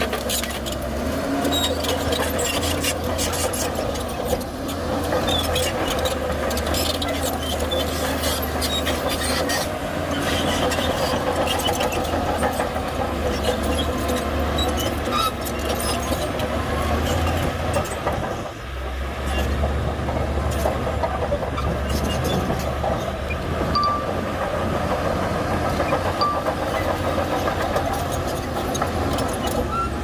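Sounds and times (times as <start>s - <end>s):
bulldozer diesel engine running: 0.0s - 30.0s
tracks clicking and squeaking: 0.0s - 30.0s.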